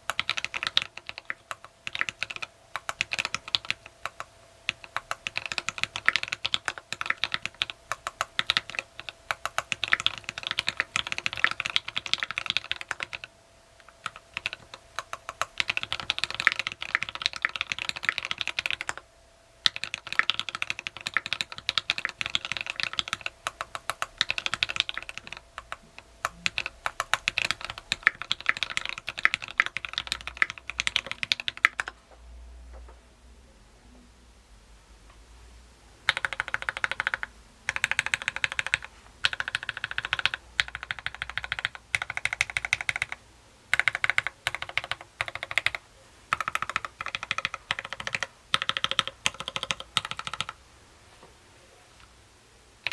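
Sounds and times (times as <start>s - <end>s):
fast typing on mechanical keyboard: 0.0s - 19.0s, 19.6s - 32.0s, 36.0s - 50.6s.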